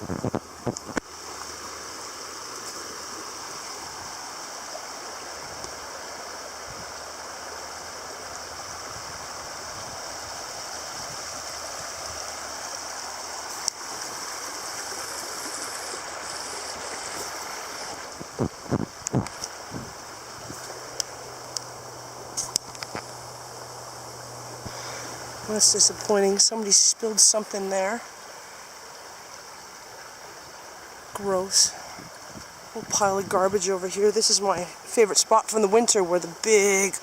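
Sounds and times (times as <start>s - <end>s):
stream flowing over rocks: 0.0s - 37.0s.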